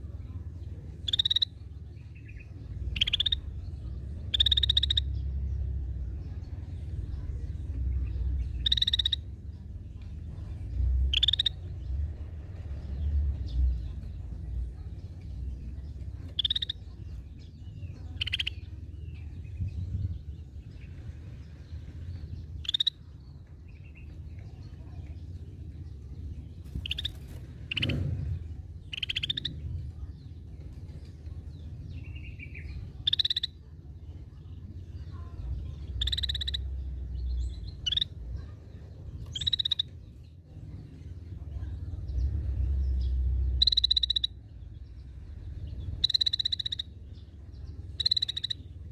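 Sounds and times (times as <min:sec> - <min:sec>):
low rumble: 0:01.6 - 0:46.2.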